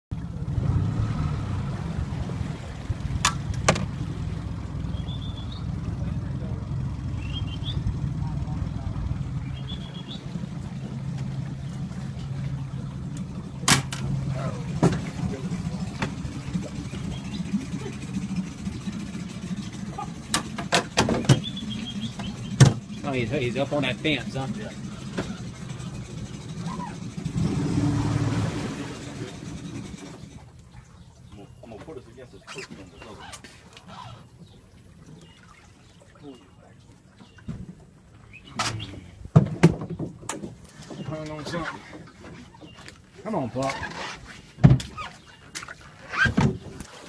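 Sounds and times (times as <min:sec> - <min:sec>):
boat motor rumbling: 0:00.1 - 0:47.0.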